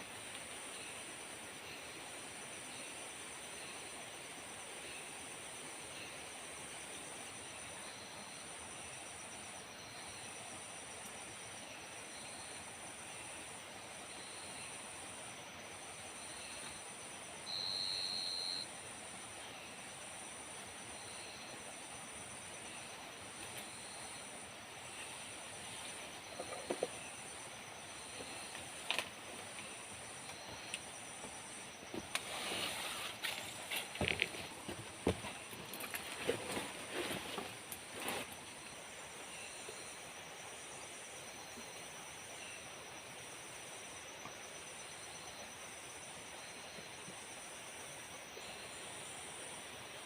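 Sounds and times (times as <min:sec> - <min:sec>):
constant hiss: 0:00.0 - 0:50.0
high-pitched insect chorus: 0:00.0 - 0:50.0.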